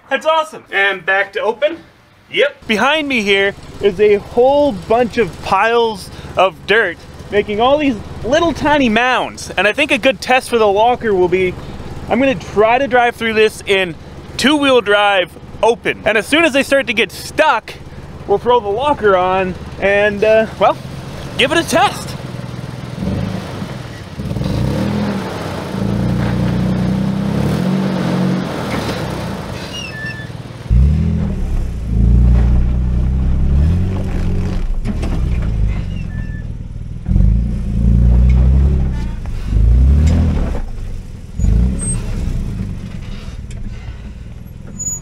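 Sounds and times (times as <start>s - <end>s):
truck engine revving: 2.6s - 45.0s.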